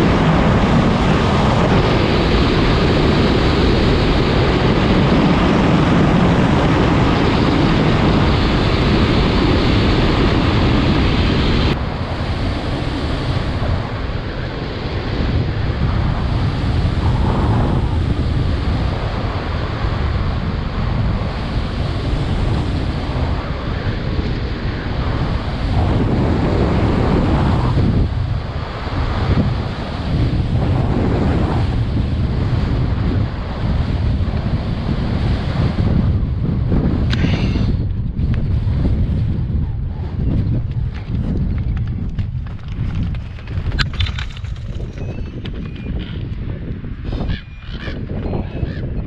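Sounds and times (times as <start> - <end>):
strong wind on microphone: 0.0 - 49.0.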